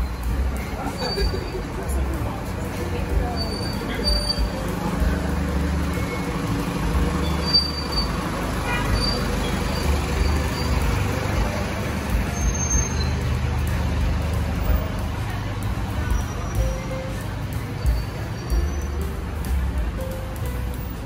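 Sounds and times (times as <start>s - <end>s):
city street traffic: 0.0s - 21.0s
vehicle engine rumbling: 0.0s - 21.0s.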